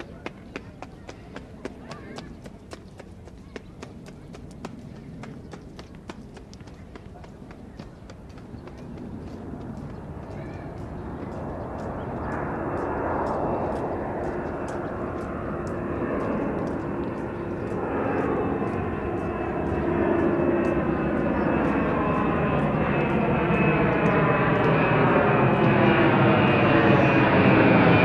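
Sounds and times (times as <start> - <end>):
jet engines roaring: 3.9 - 28.0.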